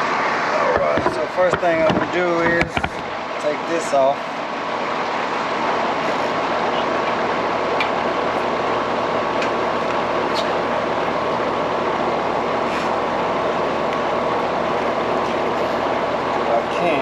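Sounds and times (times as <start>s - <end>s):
machinery or fan whooshing: 0.0s - 17.0s.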